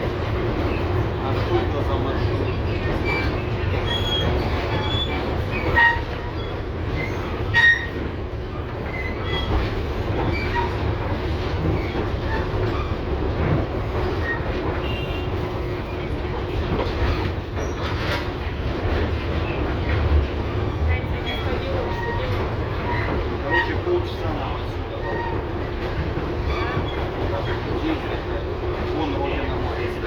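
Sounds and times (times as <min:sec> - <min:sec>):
tram rolling rumble: 0:00.0 - 0:30.0
wheel squeals against rails: 0:00.6 - 0:18.5, 0:20.6 - 0:28.4.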